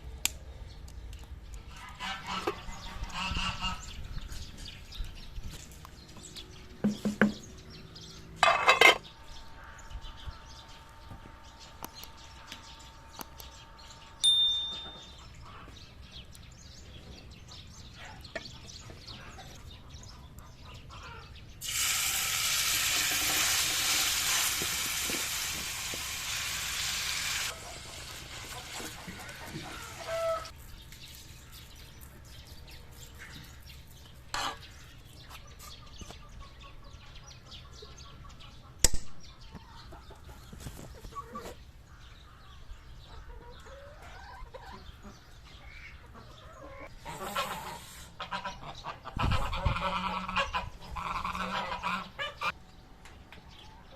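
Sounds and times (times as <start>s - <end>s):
chickens clucking: 1.5s - 4.7s, 6.8s - 14.1s, 14.8s - 21.5s, 22.8s - 30.6s, 32.7s - 53.9s.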